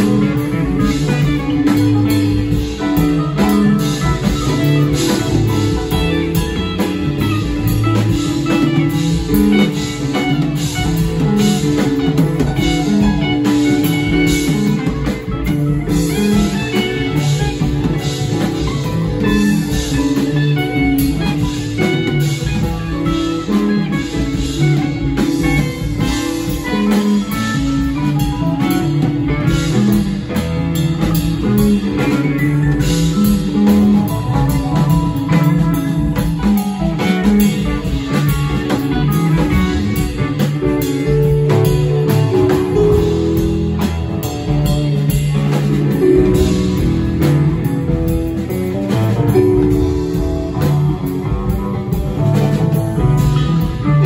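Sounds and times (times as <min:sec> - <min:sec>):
electric guitar lead: 0:00.0 - 0:54.0
live rock band playing: 0:00.0 - 0:54.0.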